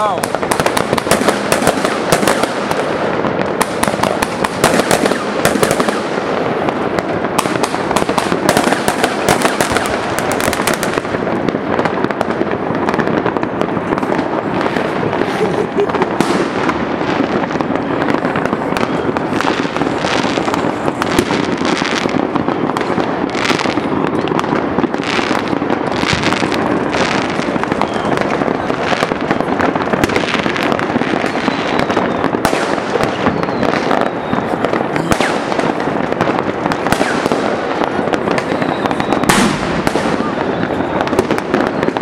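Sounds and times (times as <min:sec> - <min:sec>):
fireworks and firecrackers barrage: 0:00.0 - 0:42.0.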